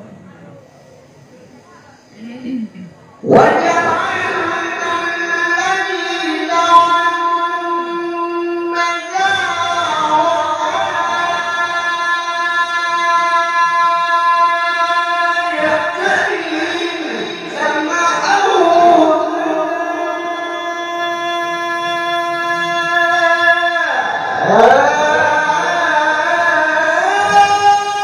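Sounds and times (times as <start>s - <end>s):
man chanting melodic recitation: 3.2s - 28.0s.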